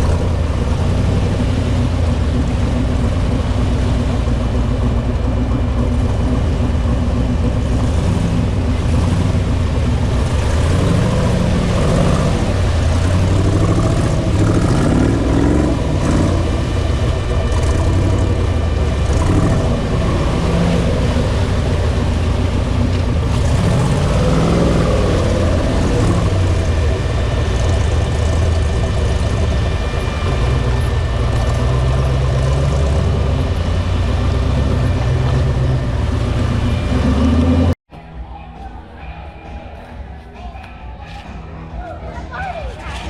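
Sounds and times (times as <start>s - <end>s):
off-road engine revving: 0.0s - 37.8s.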